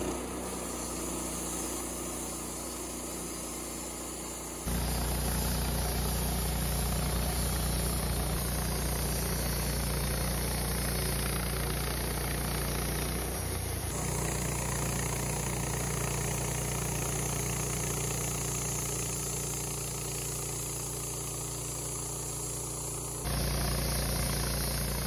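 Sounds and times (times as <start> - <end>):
bandsaw cutting log: 0.0 - 25.0.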